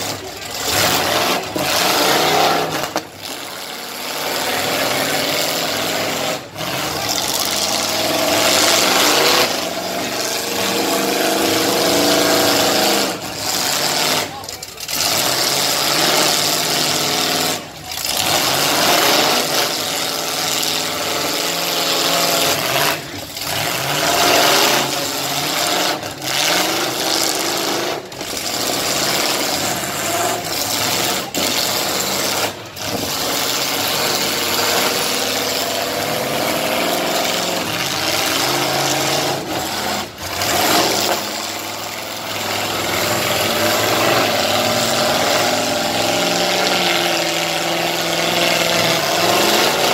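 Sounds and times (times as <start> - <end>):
car engines revving hard: 0.0 - 49.9.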